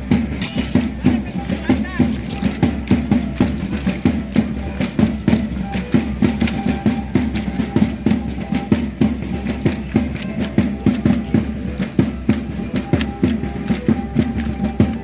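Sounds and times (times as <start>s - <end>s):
quick percussion beat: 0.0s - 15.0s.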